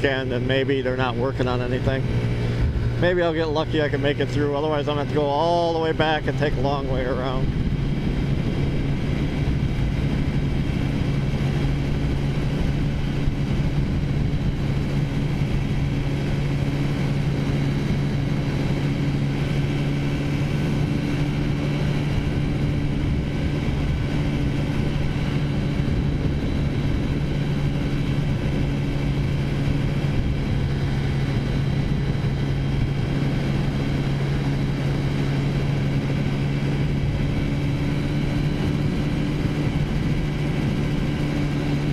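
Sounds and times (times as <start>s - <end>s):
scooter engine running: 0.0s - 41.9s
wind rush on microphone: 0.0s - 41.9s.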